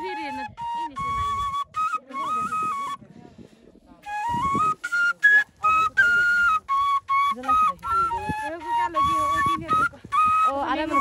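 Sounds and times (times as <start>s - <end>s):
flute melody: 0.0s - 3.2s, 3.9s - 11.0s.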